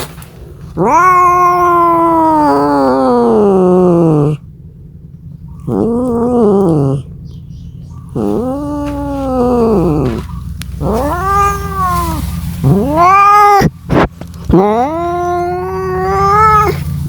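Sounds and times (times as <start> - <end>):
low steady hum: 0.0 - 17.0
cat yowling: 0.8 - 4.5, 5.6 - 7.1, 8.1 - 17.0.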